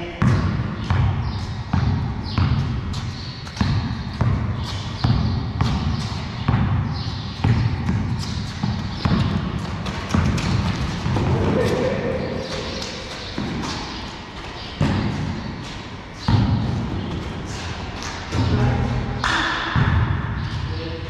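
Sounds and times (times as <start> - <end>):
basketball bouncing on concrete: 0.1 - 17.4, 18.0 - 20.6.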